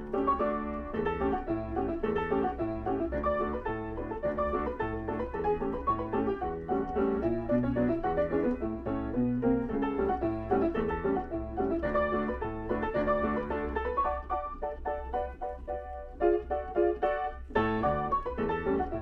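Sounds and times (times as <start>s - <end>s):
player piano playing a reel: 0.0s - 19.0s.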